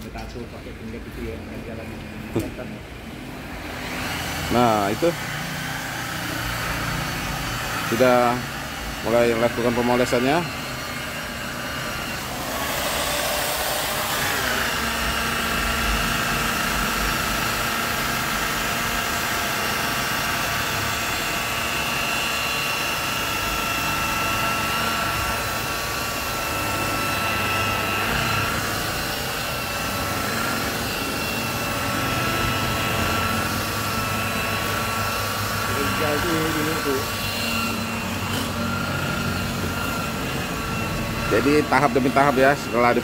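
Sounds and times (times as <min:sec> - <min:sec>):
electric polisher motor whine: 0:00.0 - 0:43.0.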